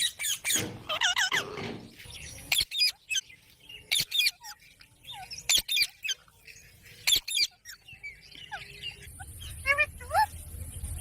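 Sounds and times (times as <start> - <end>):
parrots chirping and squeaking: 0.0 - 11.0.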